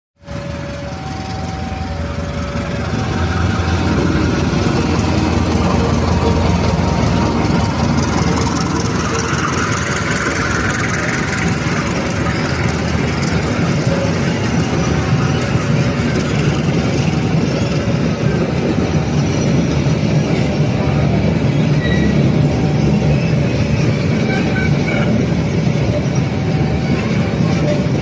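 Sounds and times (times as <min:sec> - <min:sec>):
diesel train passing: 0:00.2 - 0:28.0.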